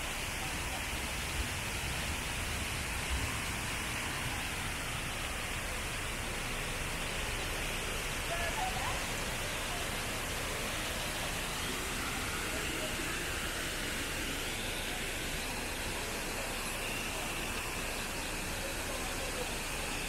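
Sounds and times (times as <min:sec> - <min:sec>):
faint voices: 0:00.0 - 0:20.0
rushing hissing noise: 0:00.0 - 0:20.0.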